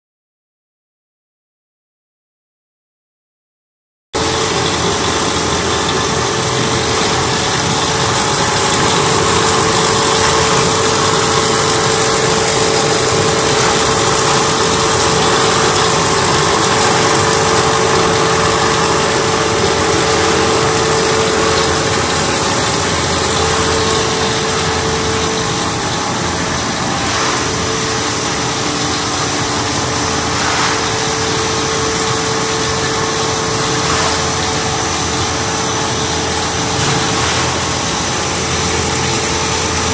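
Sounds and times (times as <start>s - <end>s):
machine drone with hum: 4.2s - 39.9s.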